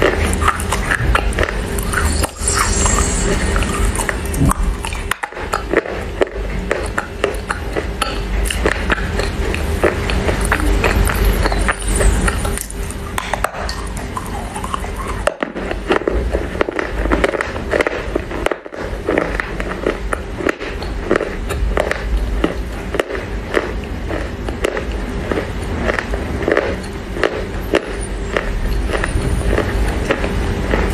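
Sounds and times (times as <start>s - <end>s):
chewing crunchy clay: 0.0s - 30.9s.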